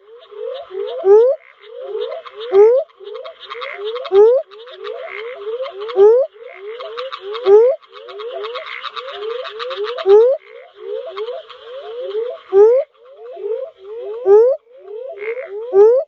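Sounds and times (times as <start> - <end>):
chorus of faint rising calls: 0.0 - 16.0
toad rising calls: 0.2 - 16.0.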